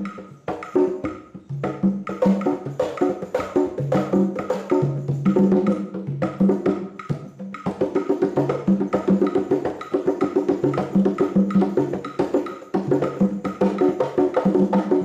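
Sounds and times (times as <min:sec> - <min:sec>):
hand drums playing fast rhythm: 0:00.0 - 0:15.0.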